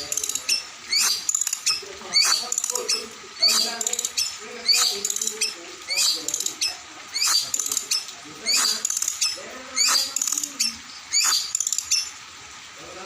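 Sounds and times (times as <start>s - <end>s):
songbird harsh calls and chatter: 0.0s - 12.3s.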